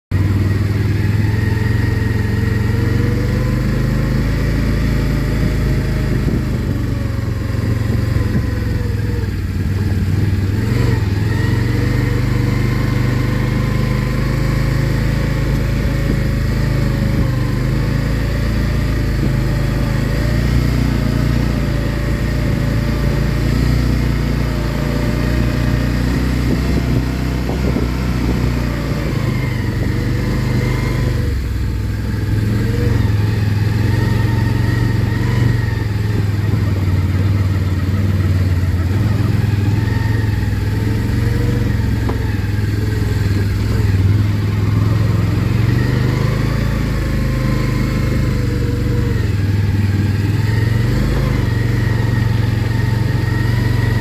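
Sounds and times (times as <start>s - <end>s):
atv engine running: 0.1s - 54.0s.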